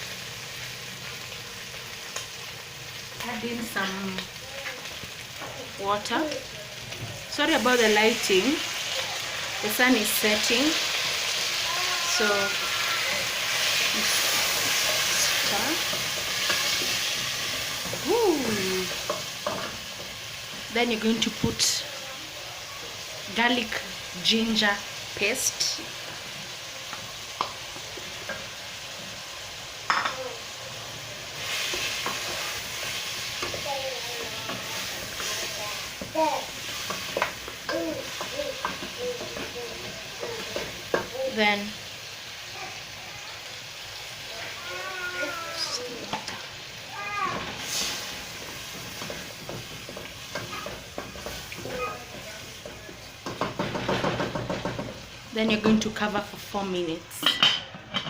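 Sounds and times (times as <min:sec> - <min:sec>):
stew pot sizzling: 0:00.0 - 0:58.0.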